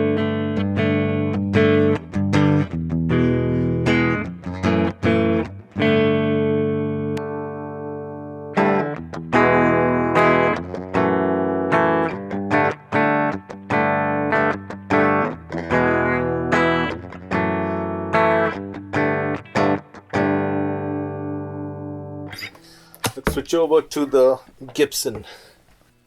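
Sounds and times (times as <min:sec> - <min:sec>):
electric guitar strumming chords: 0:00.0 - 0:23.4.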